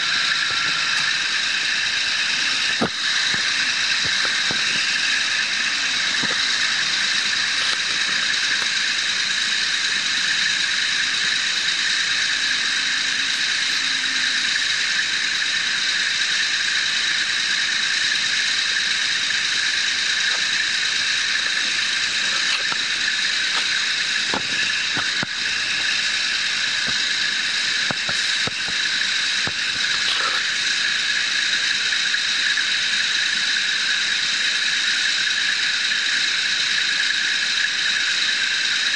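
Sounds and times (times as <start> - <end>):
continuous high whine: 0.0 - 38.9.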